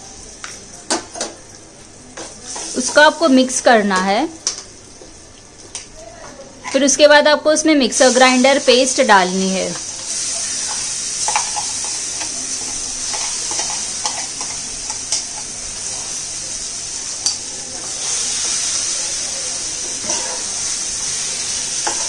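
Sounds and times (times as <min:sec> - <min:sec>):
hot oil sizzling in a pan: 0:00.0 - 0:22.0.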